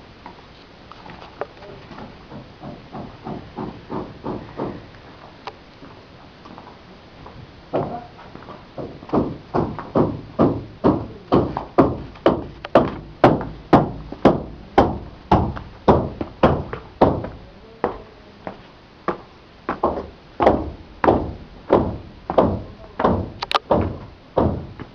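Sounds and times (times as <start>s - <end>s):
footsteps on concrete steps: 1.0s - 24.9s.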